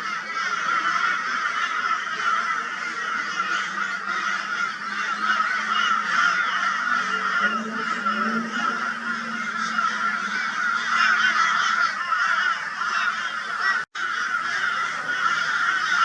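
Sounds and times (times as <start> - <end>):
crows calling raucously: 0.0 - 16.0.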